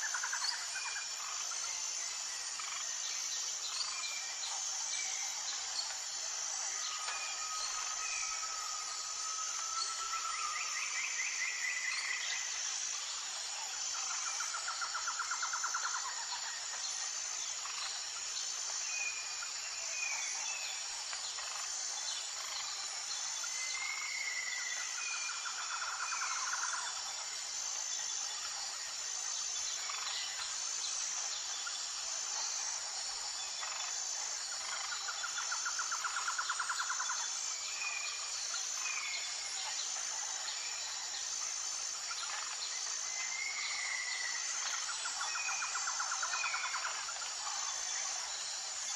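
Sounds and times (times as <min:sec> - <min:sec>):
high insect drone: 0:00.0 - 0:48.9.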